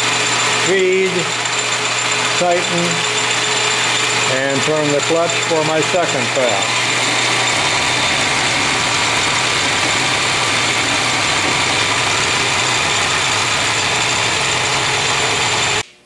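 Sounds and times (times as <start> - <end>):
metal lathe whirring: 0.0 - 15.8.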